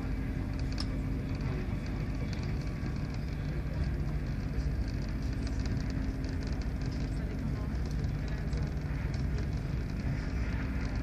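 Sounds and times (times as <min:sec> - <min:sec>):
faint steady hum: 0:00.0 - 0:11.0
train wheels rumbling on rails: 0:00.0 - 0:11.0.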